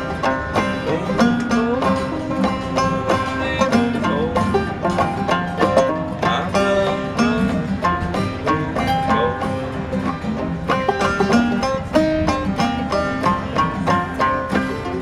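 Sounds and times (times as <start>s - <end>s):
banjo playing: 0.0s - 15.0s.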